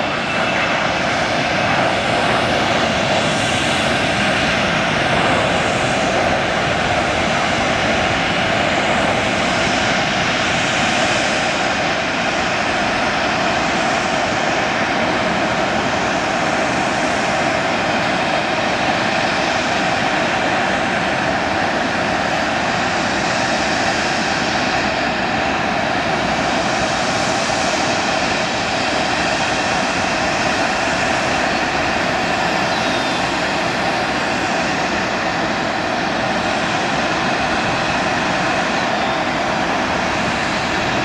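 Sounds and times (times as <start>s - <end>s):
jet engine roar: 0.0s - 41.0s.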